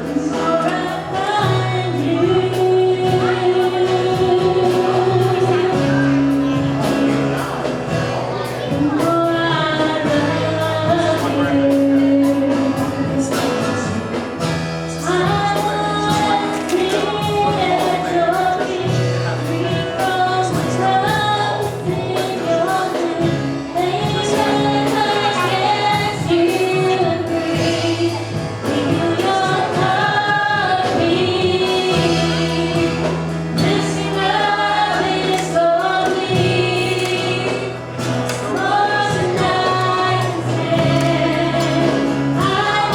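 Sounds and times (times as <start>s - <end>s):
bass notes: 0.0s - 42.9s
gospel choir singing: 0.0s - 42.9s
regular drum beat: 0.0s - 42.9s.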